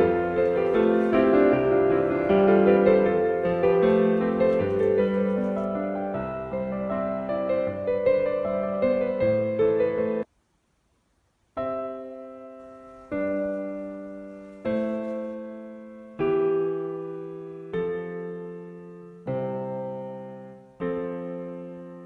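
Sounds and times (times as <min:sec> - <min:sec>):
piano music: 0:00.0 - 0:10.3, 0:11.6 - 0:22.0.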